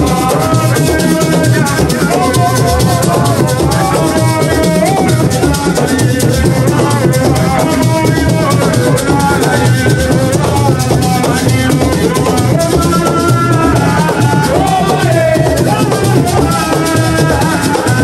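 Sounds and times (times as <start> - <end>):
drums: 0.0 - 18.0
person singing into a microphone: 0.0 - 18.0
rattling shakers: 0.0 - 18.0.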